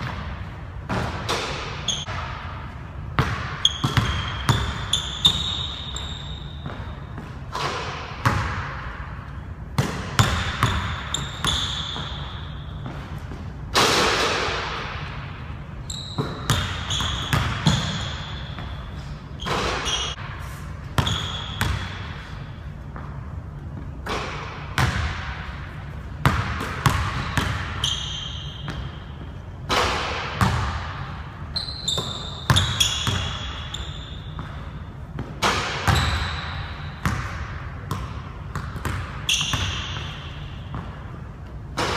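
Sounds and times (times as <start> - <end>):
sneakers squealing: 0.0 - 41.9.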